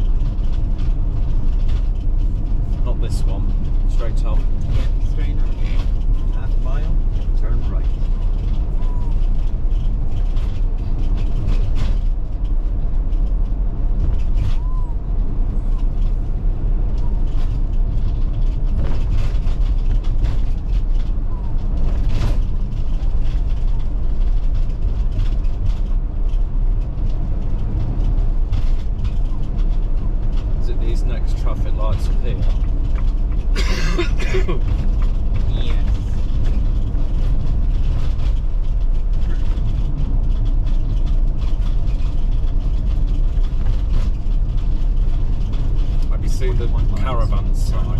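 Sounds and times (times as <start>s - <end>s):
clicks and rattles: 0.0s - 47.9s
motorhome engine and tyres rumbling: 0.0s - 47.9s.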